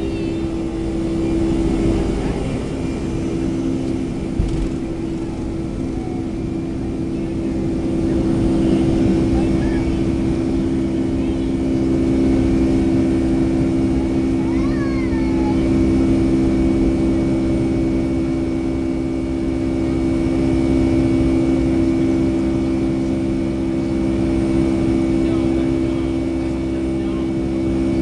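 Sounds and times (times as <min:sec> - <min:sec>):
jet engines droning in cabin: 0:00.0 - 0:28.0.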